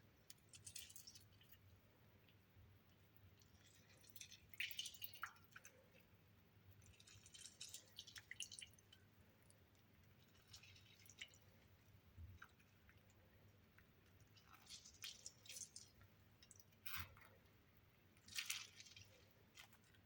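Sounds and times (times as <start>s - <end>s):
wet crackles and drips of food: 0.0s - 20.0s.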